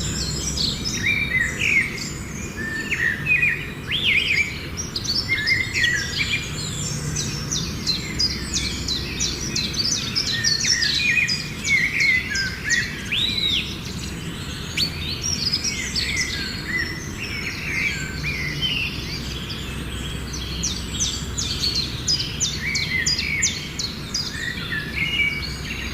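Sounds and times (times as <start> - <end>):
birds chirping in chorus: 0.0 - 25.9.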